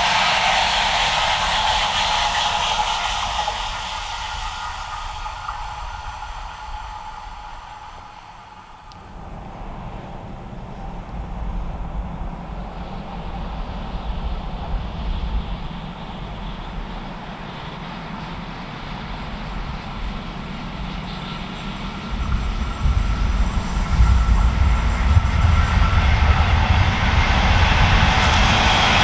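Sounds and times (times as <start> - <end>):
faint steady whine: 0.0 - 29.0
train rumble: 0.0 - 29.0.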